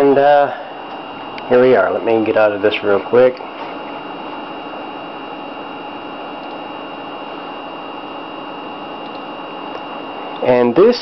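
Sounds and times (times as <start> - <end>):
computer cooling fans whirring: 0.0 - 11.0
thin high whine: 0.0 - 11.0.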